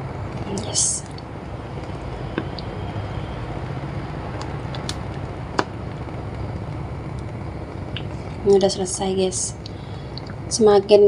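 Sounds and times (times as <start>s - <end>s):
pot boiling on stove: 0.0s - 11.0s.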